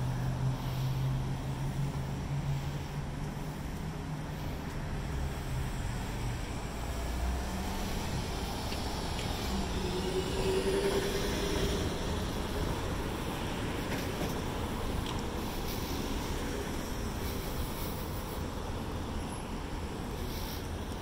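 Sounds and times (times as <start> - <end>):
passing vehicles rumble: 0.0 - 21.0.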